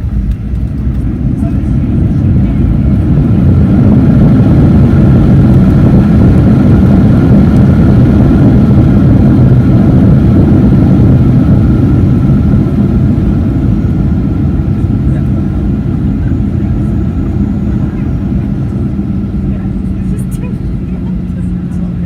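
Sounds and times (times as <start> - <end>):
faint engine whine: 0.0 - 22.0
jet engine cabin rumble: 0.0 - 22.0.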